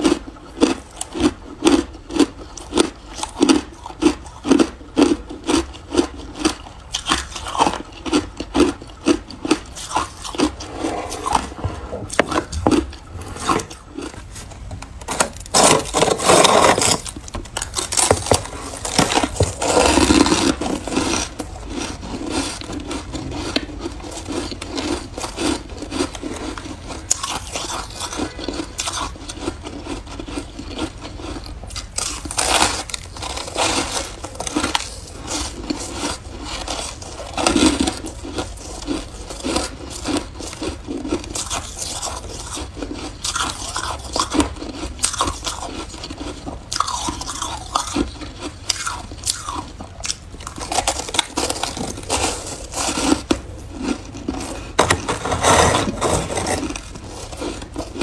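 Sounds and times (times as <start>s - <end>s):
person crunching ice: 0.0s - 58.0s.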